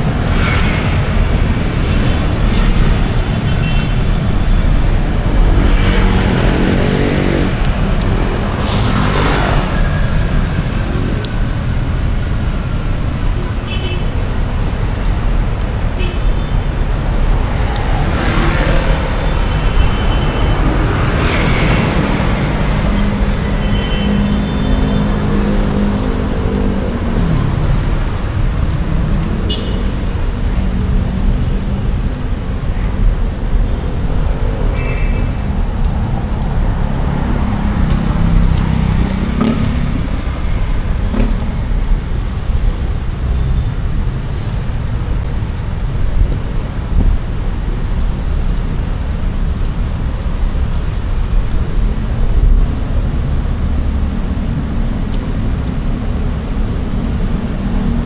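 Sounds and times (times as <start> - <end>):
rumble of traffic engines: 0.0 - 58.0
vehicles passing close by: 0.0 - 58.0.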